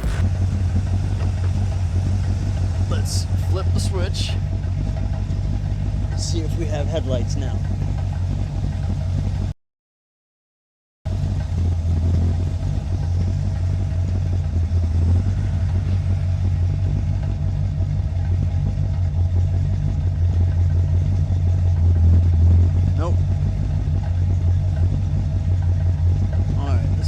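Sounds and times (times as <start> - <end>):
car engine idling: 0.0 - 9.5, 11.1 - 27.0.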